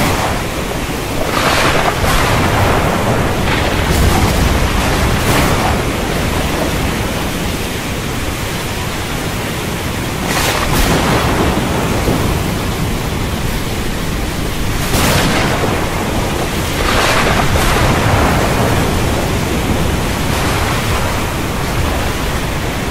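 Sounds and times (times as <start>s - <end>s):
heavy rain hissing: 0.0s - 22.9s
low thunder rumble: 0.0s - 22.9s
thunder cracking: 0.0s - 22.9s.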